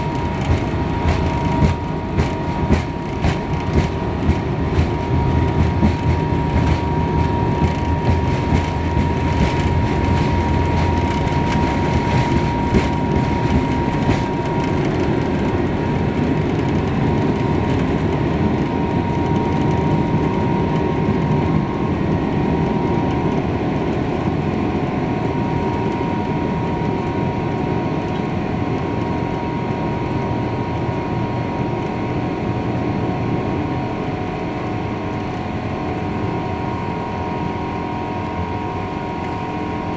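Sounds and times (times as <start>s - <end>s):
jet engines roaring: 0.0s - 39.9s
wheels rumbling on runway: 0.0s - 39.9s.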